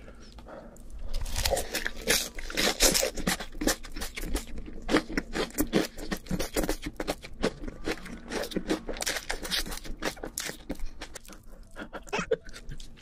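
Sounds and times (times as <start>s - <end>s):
chewing crunchy food: 0.4s - 13.0s.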